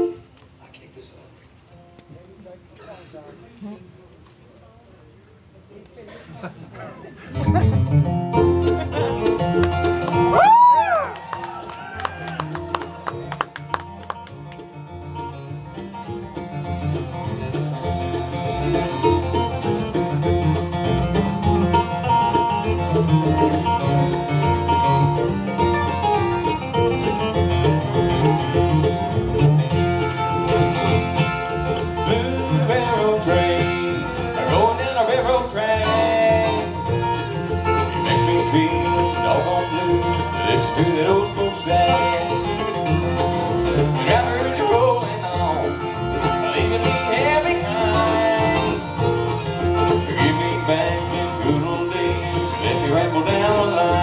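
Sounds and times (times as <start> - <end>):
acoustic bluegrass band playing: 0.0 - 4.0, 6.1 - 54.0
sliding lead guitar notes: 7.4 - 54.0.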